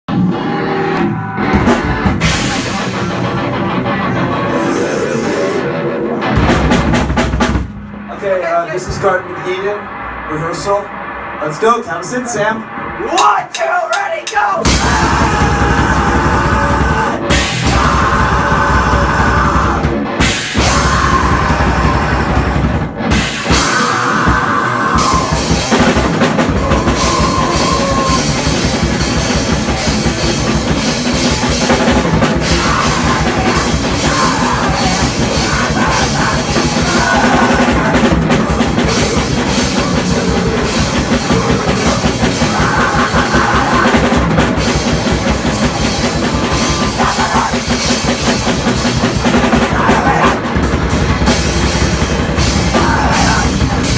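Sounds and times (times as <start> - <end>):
rock band playing live: 0.1 - 8.2, 14.6 - 53.9
dense drumming: 1.0 - 11.4, 12.6 - 53.9.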